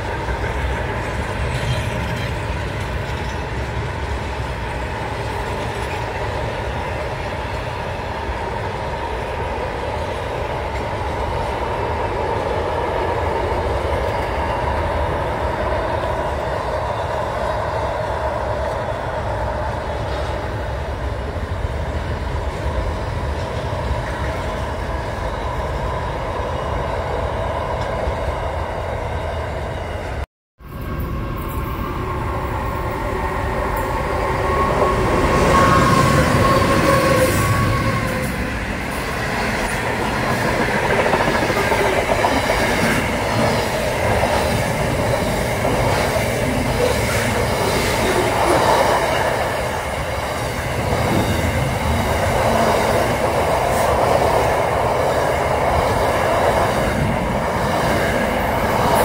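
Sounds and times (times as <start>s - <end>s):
freight train rumbling over bridge: 0.0s - 59.0s.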